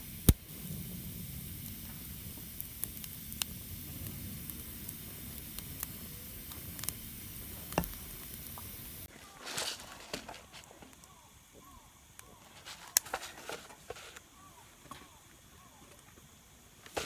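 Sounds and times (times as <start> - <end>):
crackles and pops of burning wood: 0.0 - 17.0
wood fire burning: 0.0 - 17.0.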